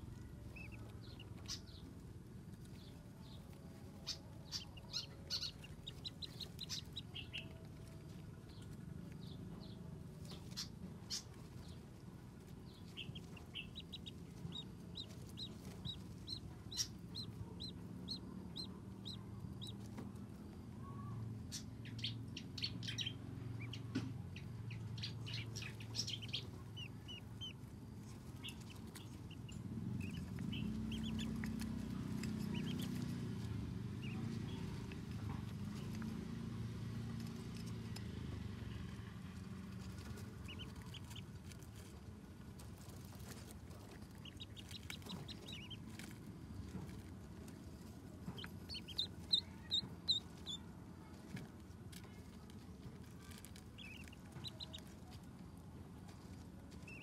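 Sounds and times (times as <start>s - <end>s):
ducklings peeping: 0.0s - 57.0s
low steady hum: 0.0s - 57.0s.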